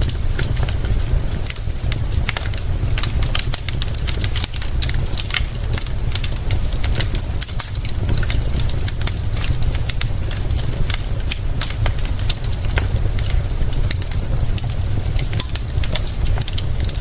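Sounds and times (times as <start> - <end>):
faint rain hiss: 0.0 - 17.0
steady low rumble: 0.0 - 17.0
wood fire crackling and popping: 0.0 - 17.0.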